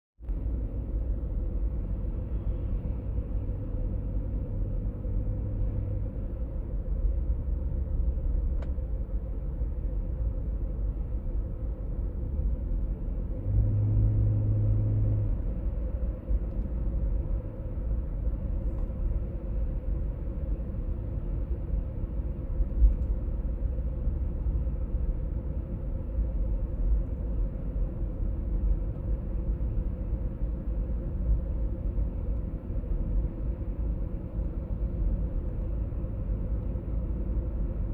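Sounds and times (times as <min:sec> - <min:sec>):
road and drivetrain rumble: 0:00.2 - 0:37.9.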